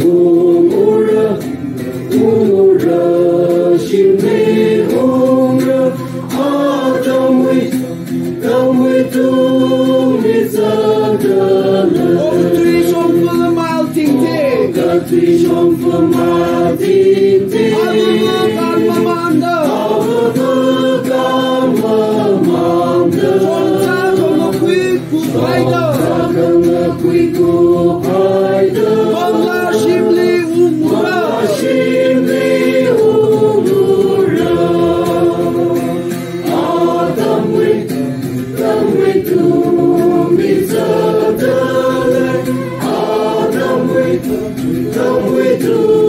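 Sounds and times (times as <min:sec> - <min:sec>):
group singing a hymn: 0:00.0 - 0:46.0.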